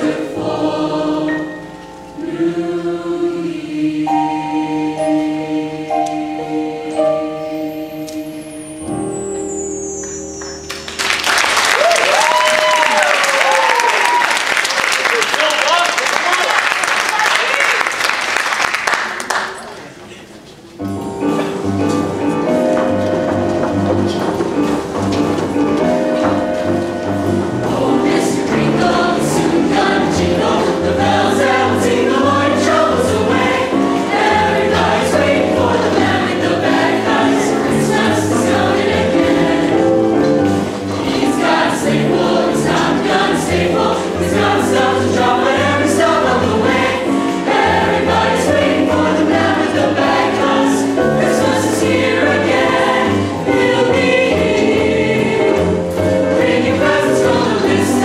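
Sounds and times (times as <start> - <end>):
large ensemble playing chords: 0.0 - 11.4, 20.8 - 58.0.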